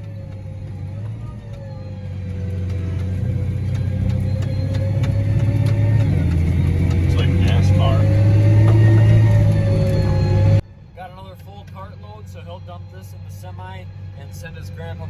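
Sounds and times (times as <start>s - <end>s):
faint whine: 0.0s - 15.0s
large engine humming: 0.0s - 15.0s.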